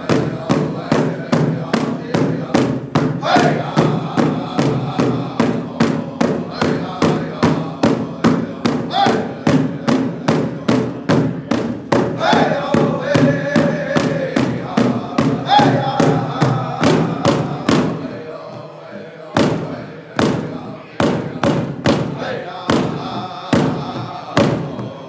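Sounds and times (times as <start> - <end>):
large drum steady beat: 0.0 - 25.0
men singing in high voices: 0.0 - 25.0.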